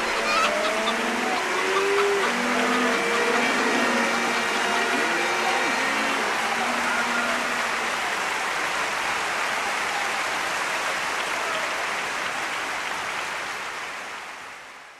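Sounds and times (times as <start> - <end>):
audience applauding: 0.0 - 14.7.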